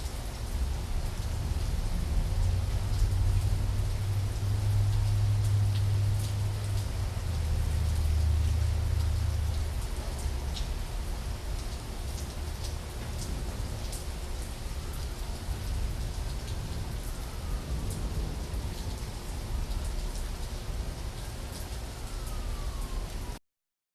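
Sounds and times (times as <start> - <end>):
heavy rain falling: 0.0 - 23.4.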